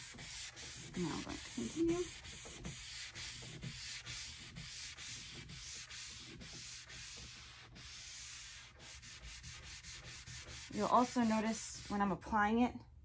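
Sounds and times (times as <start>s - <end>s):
cloth rag scrubbing wood: 0.0s - 12.1s.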